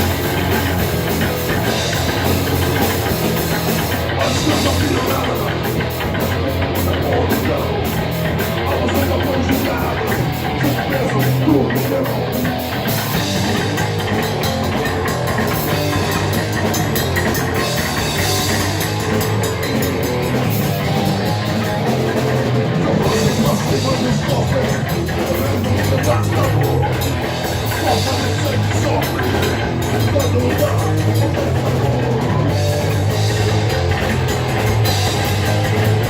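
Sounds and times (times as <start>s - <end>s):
distorted metal band playing: 0.0s - 36.0s
pounding drum kit: 0.0s - 36.0s.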